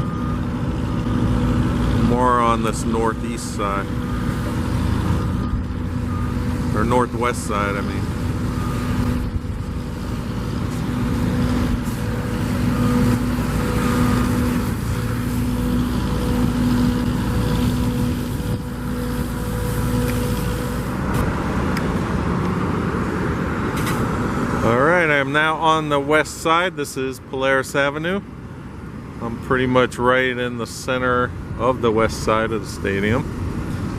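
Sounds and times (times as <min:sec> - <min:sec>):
car engine hum: 0:00.0 - 0:33.9
road noise: 0:00.0 - 0:33.9.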